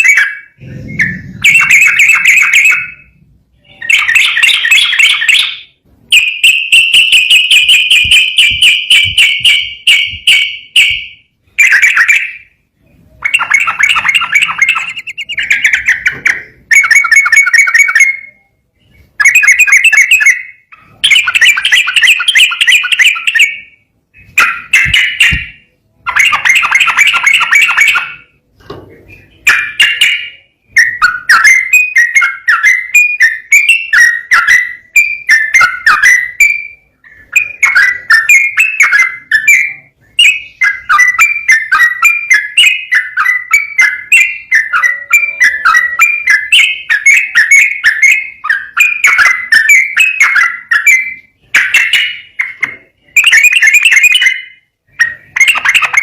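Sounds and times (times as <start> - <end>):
bird singing rolling phrases: 0.0 - 56.0.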